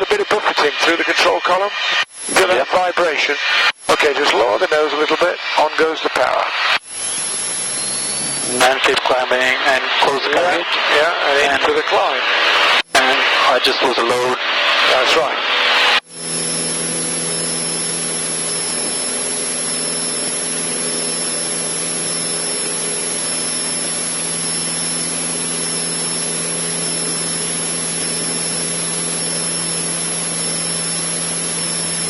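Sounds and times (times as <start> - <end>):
plane engine and propeller: 0.0 - 32.0
thin high whine: 0.0 - 32.0.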